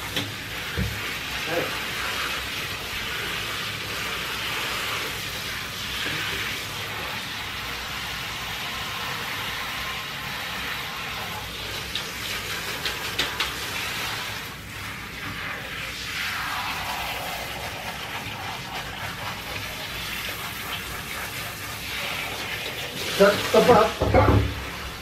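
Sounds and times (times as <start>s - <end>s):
shower spray on wet fur: 0.0s - 25.0s.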